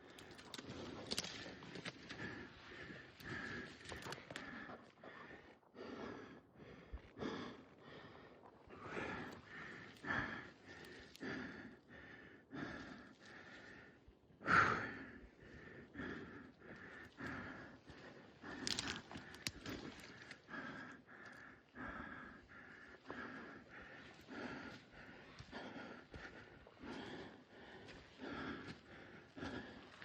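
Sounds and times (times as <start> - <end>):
person breathing hard: 0.0 - 30.0.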